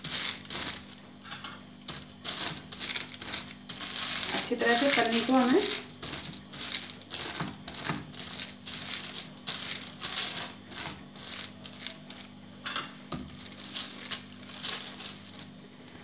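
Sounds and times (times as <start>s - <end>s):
plastic sheet rustling and crinkling: 0.0s - 1.0s, 1.9s - 12.4s, 13.1s - 16.0s
steady low hum: 0.0s - 16.0s.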